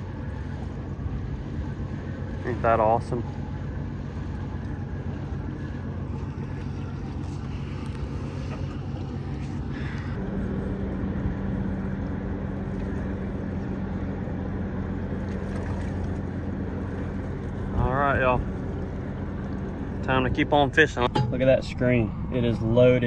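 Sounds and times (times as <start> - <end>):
boat engine drone: 0.0 - 23.0
water noise: 0.0 - 23.0
wind: 0.0 - 23.0.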